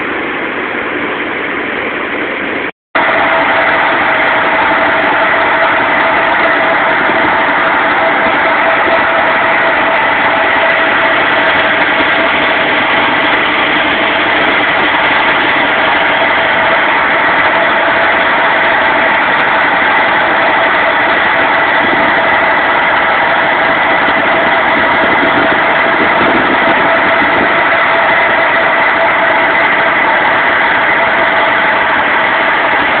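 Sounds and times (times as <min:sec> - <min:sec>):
fire engine pump engine running: 0:00.0 - 0:33.0.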